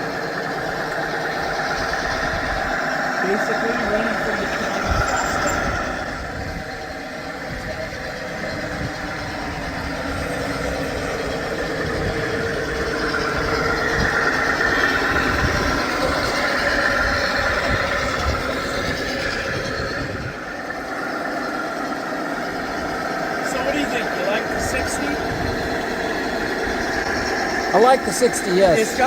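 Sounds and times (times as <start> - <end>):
model train diesel rumble: 0.0 - 29.0.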